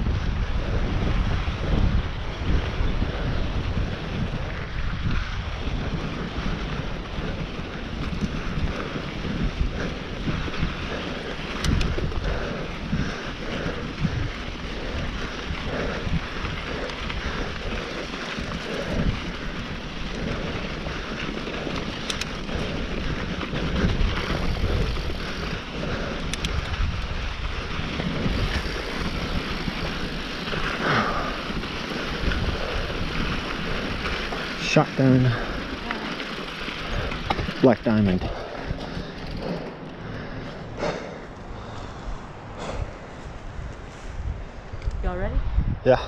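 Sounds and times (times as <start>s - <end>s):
bike clicks and rattles: 0.0s - 45.0s
bike tyres rolling on dirt: 0.0s - 46.0s
wind buffeting microphone: 0.0s - 46.0s.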